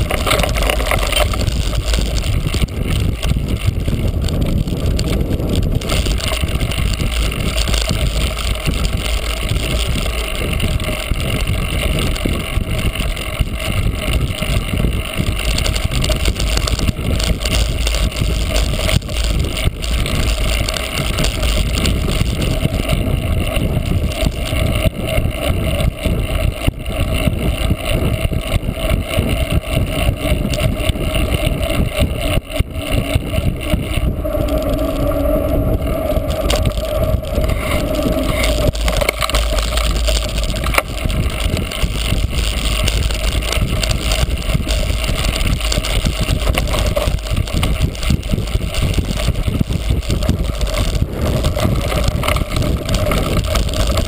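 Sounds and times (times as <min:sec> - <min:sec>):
bike rumbling over rough ground: 0:00.0 - 0:54.0
wind buffeting microphone: 0:00.0 - 0:54.0.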